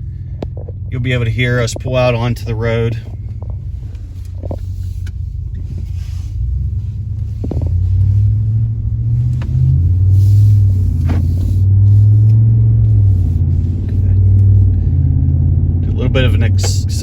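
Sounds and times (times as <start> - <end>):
truck exhaust deep rumble: 0.0 - 17.0.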